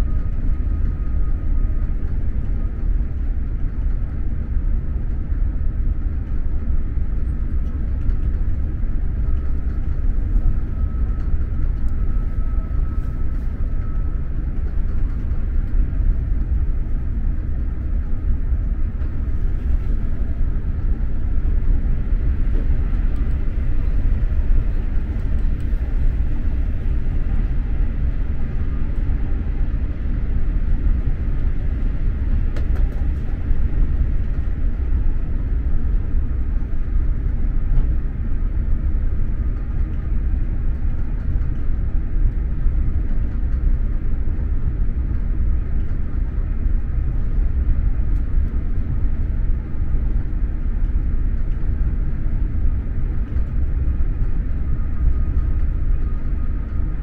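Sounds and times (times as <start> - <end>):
train rumble inside passenger car: 0.0 - 57.0.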